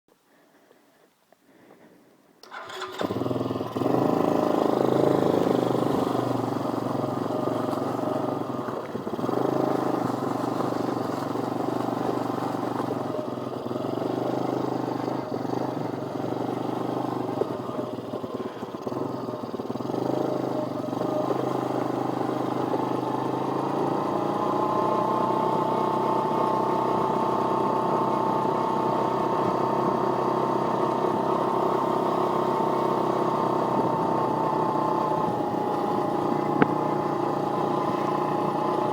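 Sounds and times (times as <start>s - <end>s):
motorbike engine revving: 2.4s - 38.9s.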